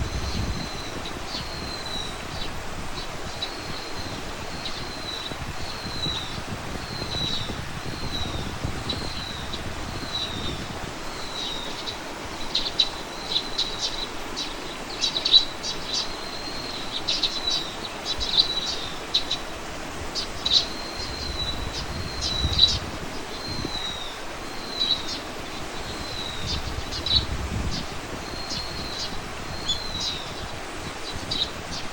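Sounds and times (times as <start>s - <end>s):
songbirds chirping: 0.0s - 31.9s.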